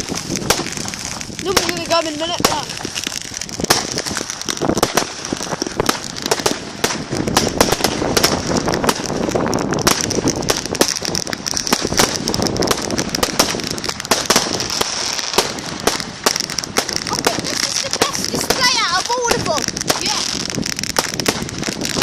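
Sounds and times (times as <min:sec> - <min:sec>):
fireworks cracks and bangs: 0:00.0 - 0:22.0.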